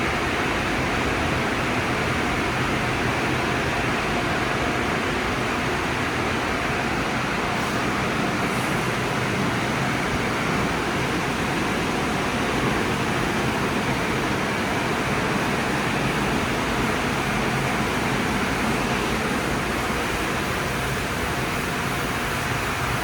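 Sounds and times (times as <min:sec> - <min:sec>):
car wash spraying water: 0:00.0 - 0:23.0.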